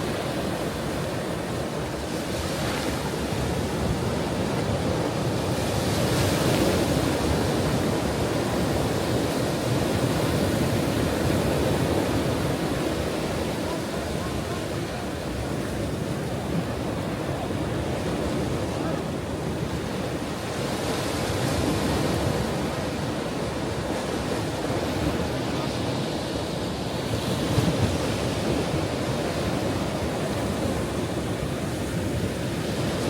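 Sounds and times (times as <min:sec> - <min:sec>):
ocean waves breaking on shore: 0:00.0 - 0:33.0.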